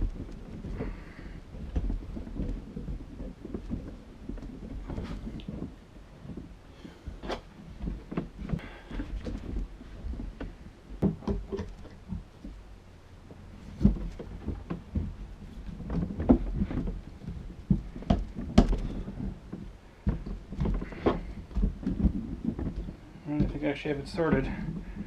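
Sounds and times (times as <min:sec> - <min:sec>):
knocks thumps and scrapes: 0:00.0 - 0:25.0.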